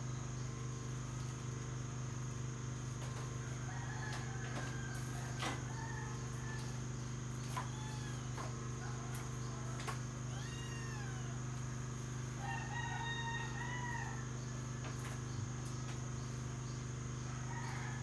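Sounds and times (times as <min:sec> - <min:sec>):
insect drone: 0:00.0 - 0:18.0
steady low hum: 0:00.0 - 0:18.0
distant rooster crowing: 0:03.0 - 0:18.0.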